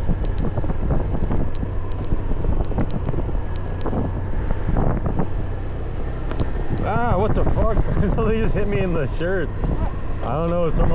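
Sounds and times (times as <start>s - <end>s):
vehicle drone: 0.0s - 10.9s
wind buffeting microphone: 0.0s - 10.9s.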